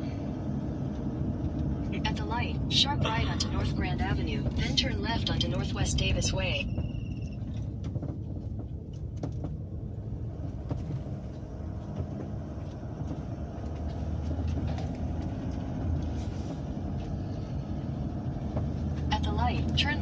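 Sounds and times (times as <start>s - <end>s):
road and engine rumble: 0.0s - 20.0s.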